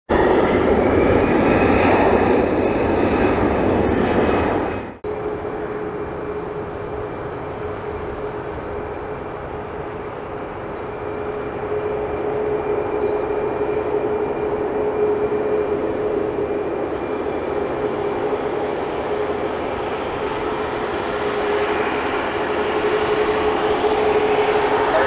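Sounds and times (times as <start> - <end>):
jet engine noise: 0.1 - 25.0
jet engine whine: 0.1 - 25.0.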